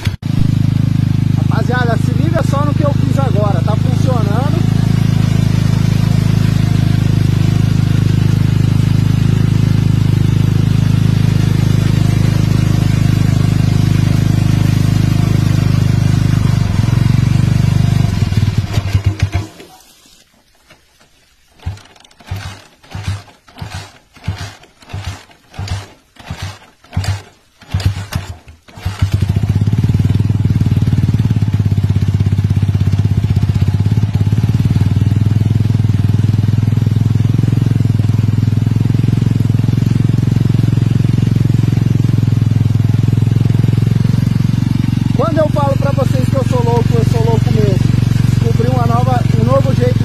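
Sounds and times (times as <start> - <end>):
motorcycle engine starting: 0.0 - 50.0
water running from hose: 0.0 - 50.0.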